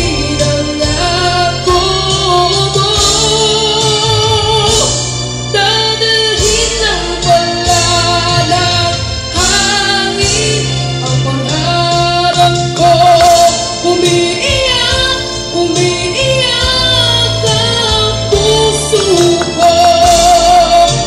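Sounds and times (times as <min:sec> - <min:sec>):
boy singing into microphone: 0:00.0 - 0:21.0
instrumental accompaniment: 0:00.0 - 0:21.0.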